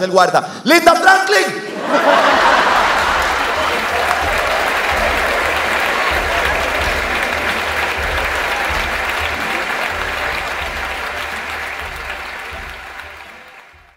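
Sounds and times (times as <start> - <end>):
audience applauding: 1.8 - 13.9.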